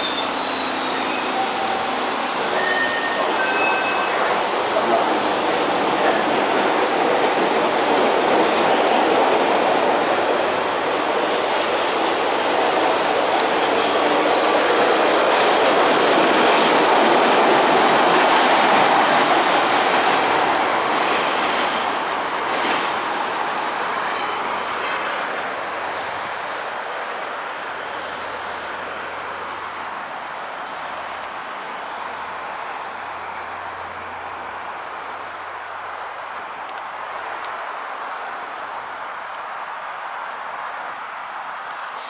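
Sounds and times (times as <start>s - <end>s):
subway train rumbling on rails: 0.0s - 42.0s.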